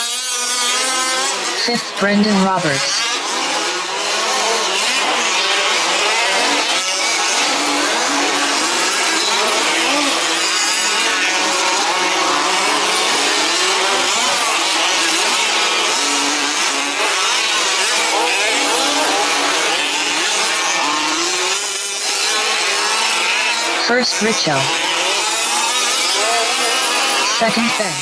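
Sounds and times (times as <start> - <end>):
small two-stroke engines revving: 0.0 - 28.0.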